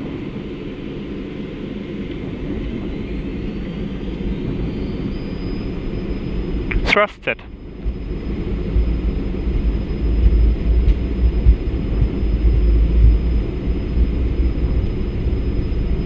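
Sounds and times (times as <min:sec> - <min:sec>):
jet engine low rumble: 0:00.0 - 0:16.0.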